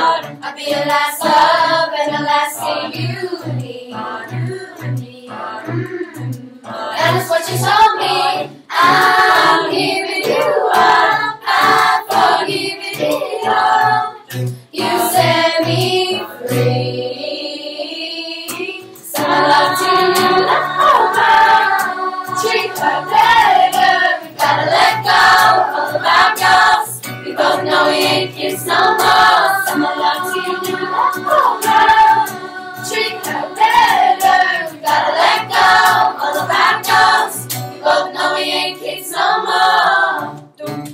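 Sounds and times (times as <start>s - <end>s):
youth choir singing pop song: 0.0s - 40.9s.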